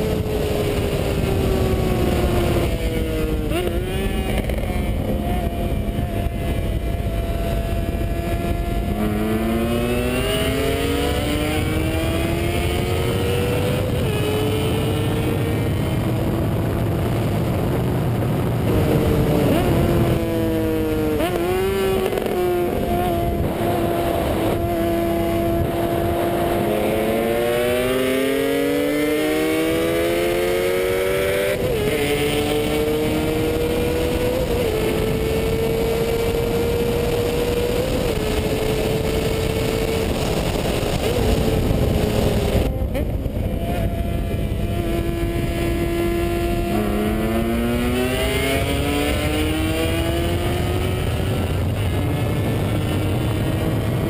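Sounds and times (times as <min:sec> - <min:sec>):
heavy wind noise: 0:00.0 - 0:54.0
motorcycle engine accelerating: 0:00.0 - 0:54.0.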